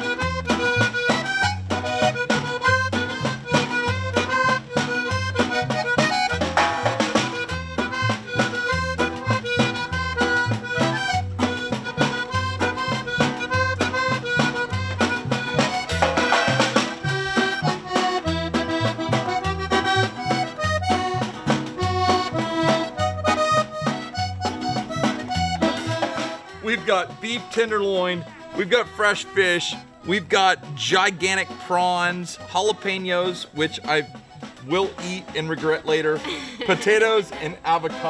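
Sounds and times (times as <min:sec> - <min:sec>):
accordion melody: 0:00.0 - 0:38.0
bass beat: 0:00.0 - 0:38.0
small band playing: 0:00.0 - 0:38.0.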